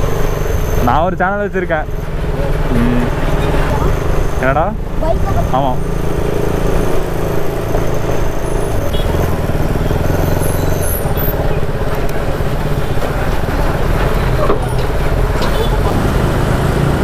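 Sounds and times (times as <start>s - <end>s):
motorcycle cruising: 0.0s - 17.0s.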